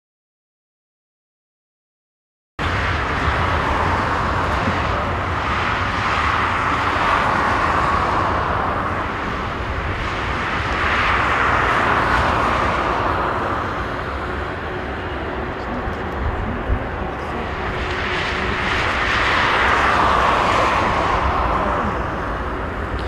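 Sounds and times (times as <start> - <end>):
jet engine whine and rumble: 2.6 - 23.0.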